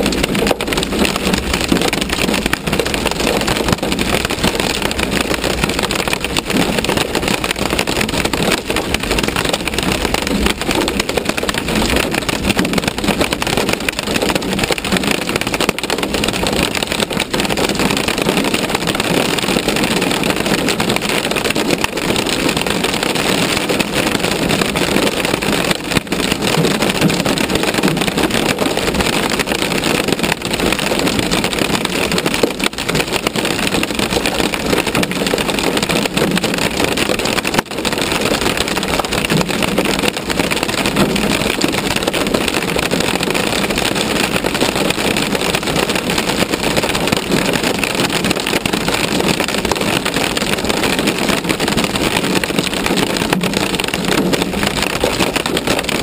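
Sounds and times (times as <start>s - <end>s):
hail on vehicle roof: 0.0s - 56.0s.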